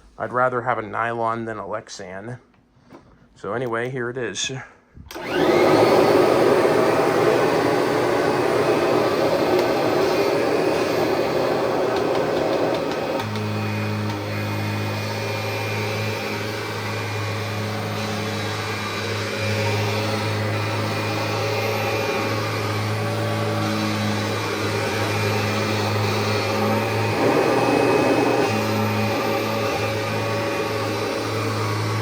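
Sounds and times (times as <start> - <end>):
vacuum cleaner running on carpet: 5.1 - 32.0.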